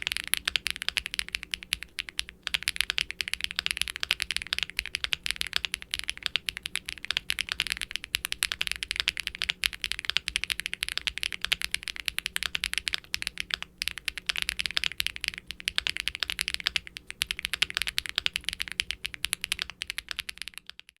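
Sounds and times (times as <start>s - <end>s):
fast mechanical keyboard typing: 0.0s - 21.0s.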